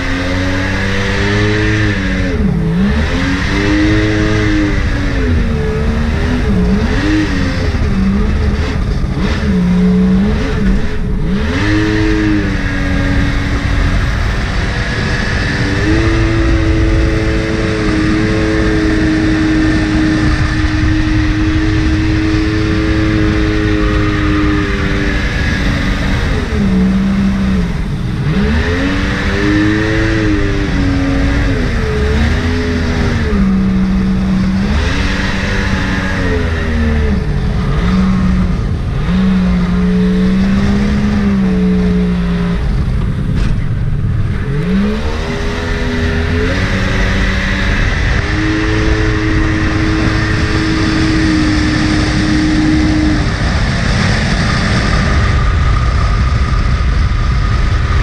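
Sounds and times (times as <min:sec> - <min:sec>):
jet boat engine revving: 0:00.0 - 0:58.0.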